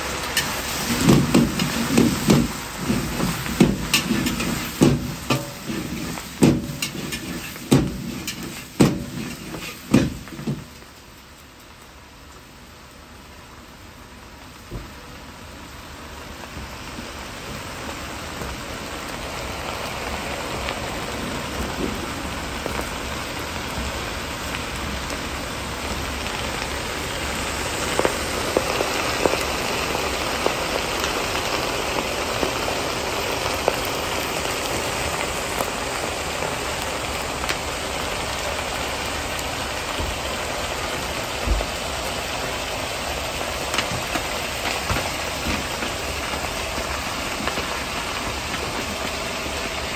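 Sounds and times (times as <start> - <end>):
oil popping and crackling: 0.0 - 13.1, 15.7 - 49.9
oil sizzling in a hot wok: 0.0 - 49.9.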